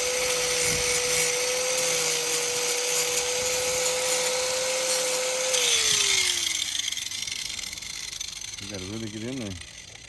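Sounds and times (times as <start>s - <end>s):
power grinder cutting chain: 0.0s - 10.0s.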